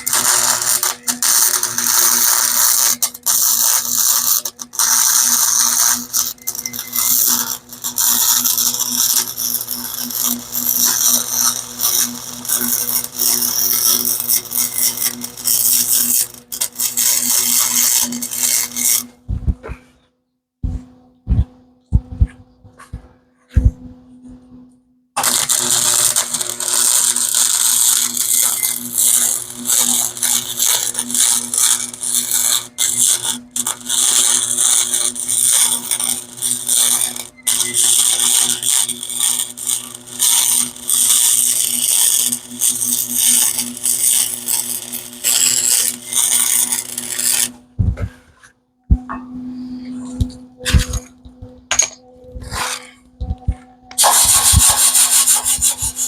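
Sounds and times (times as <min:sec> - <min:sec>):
welding arc crackling: 0:00.0 - 0:19.6, 0:25.2 - 0:48.2, 0:49.9 - 0:56.0.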